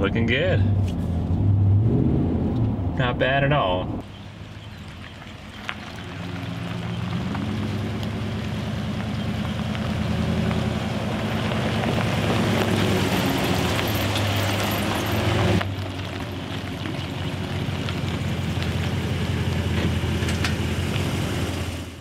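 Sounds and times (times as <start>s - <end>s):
truck engine driving by: 0.0s - 22.0s.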